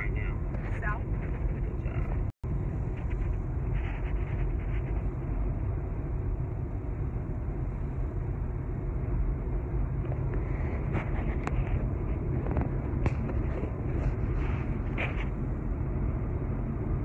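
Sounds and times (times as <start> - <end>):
car cabin road noise: 0.0 - 17.0
wind noise: 0.0 - 17.0.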